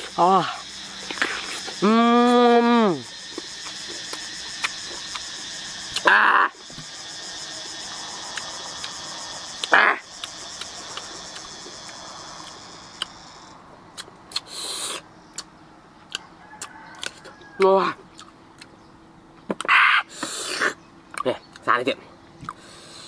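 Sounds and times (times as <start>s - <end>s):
insects chewing clicks: 0.0s - 2.4s, 3.0s - 18.8s, 19.4s - 23.0s
insects droning: 0.0s - 23.0s.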